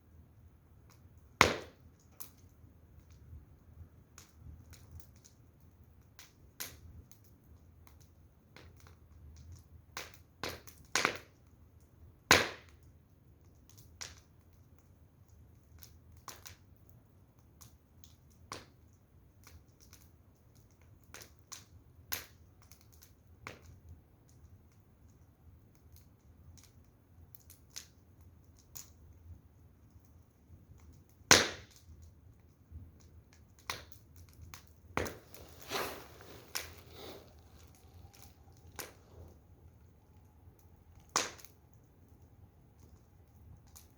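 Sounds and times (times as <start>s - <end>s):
firewood crackling and popping: 0.0s - 43.9s.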